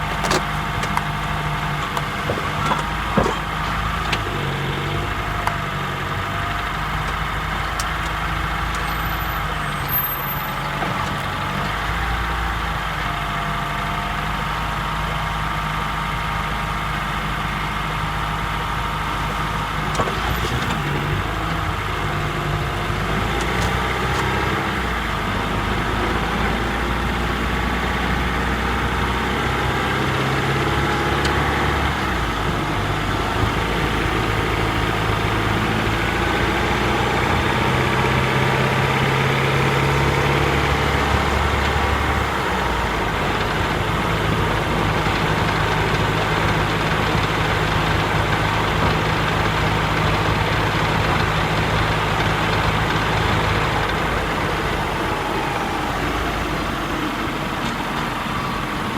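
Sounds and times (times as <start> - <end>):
car engine droning: 0.0 - 58.9.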